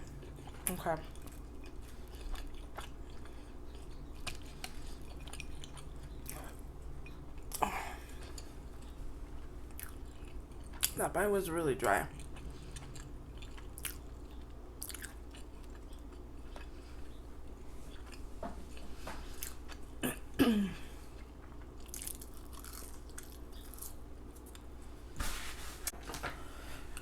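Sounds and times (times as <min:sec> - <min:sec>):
close-up chewing with smacking: 0:00.0 - 0:11.0, 0:12.1 - 0:19.9, 0:21.2 - 0:24.7.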